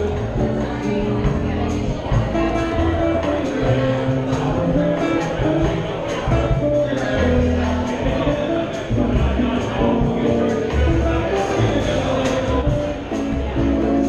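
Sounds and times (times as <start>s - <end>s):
cymbals tapping a beat: 0.0s - 14.0s
electric guitar: 0.0s - 14.0s
upright bass: 0.0s - 14.0s.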